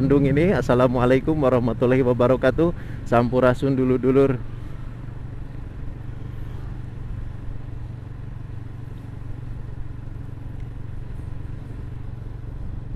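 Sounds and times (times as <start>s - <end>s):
motorcycle engine running: 0.0s - 12.9s
road and wind noise: 0.0s - 12.9s.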